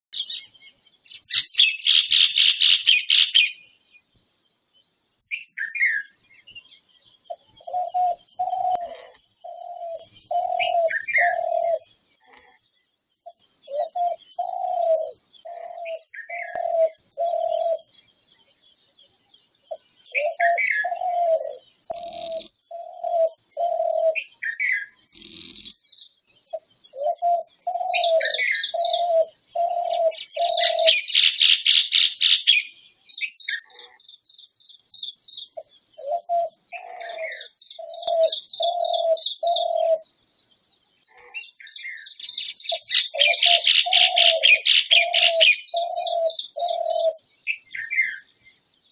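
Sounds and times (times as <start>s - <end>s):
bird chirps and twittering trills: 0.1s - 48.9s
birds calling with low notes: 0.1s - 48.9s.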